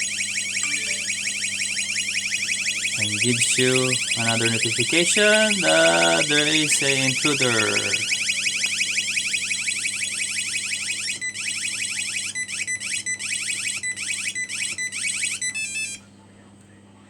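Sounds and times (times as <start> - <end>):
pulsing alarm tone: 0.0 - 15.4
alarm siren electronic sweeps: 0.0 - 16.0.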